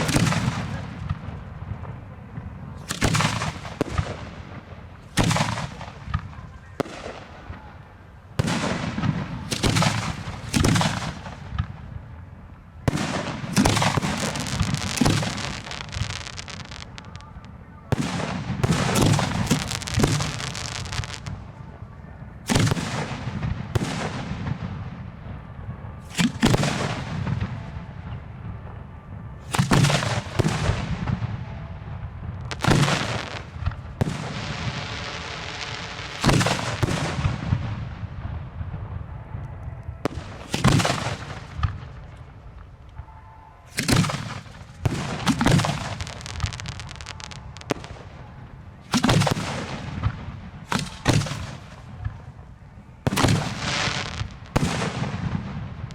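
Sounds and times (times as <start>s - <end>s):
fireworks booming: 0.0s - 12.1s, 12.8s - 21.8s, 22.4s - 42.8s, 43.7s - 55.9s
fireworks crackling: 0.0s - 25.0s, 29.4s - 39.4s, 40.0s - 42.9s, 43.7s - 55.9s.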